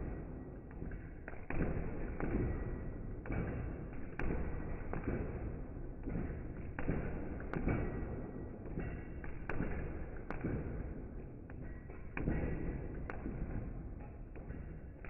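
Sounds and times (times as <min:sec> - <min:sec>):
speed bag being punched: 0:00.0 - 0:15.0.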